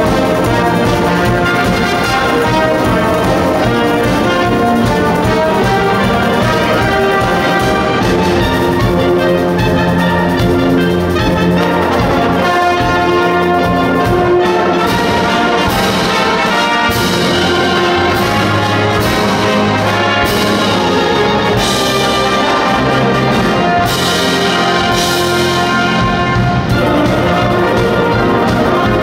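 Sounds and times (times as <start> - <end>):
wind band playing chords: 0.0 - 29.0.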